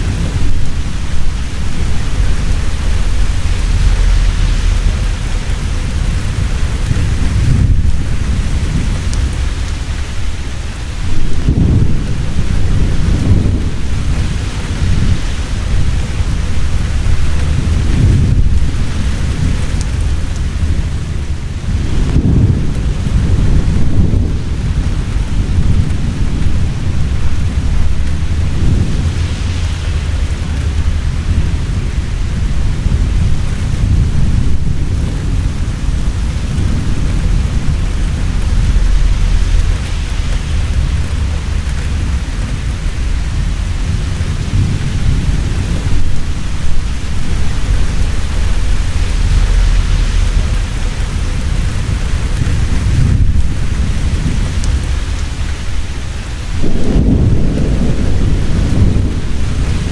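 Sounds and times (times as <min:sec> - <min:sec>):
heavy rain falling: 0:00.0 - 0:59.9
rolling thunder rumbling: 0:00.0 - 0:59.9.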